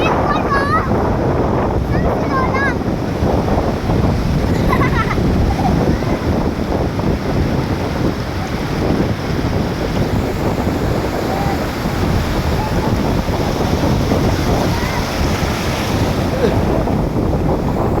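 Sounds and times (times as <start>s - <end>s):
ocean surf washing on shore: 0.0s - 18.0s
wind buffeting microphone: 0.0s - 18.0s.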